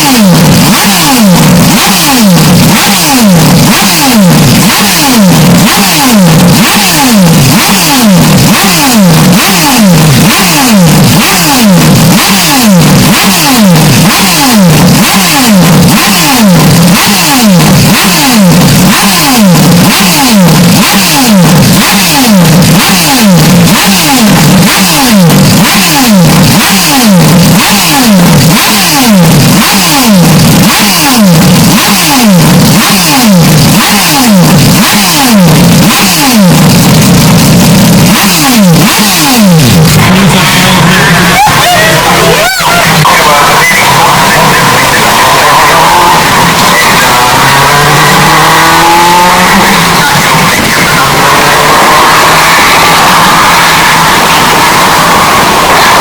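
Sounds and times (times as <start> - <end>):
distorted racing car engine: 0.0 - 56.0.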